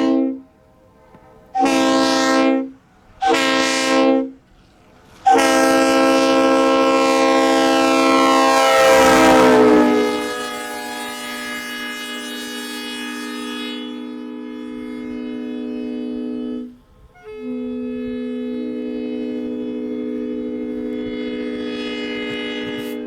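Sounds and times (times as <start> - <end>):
locomotive air horn: 0.0 - 23.0.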